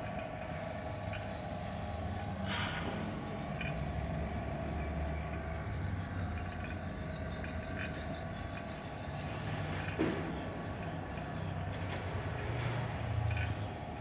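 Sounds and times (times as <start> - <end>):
vacuum pump humming: 0.0 - 14.0.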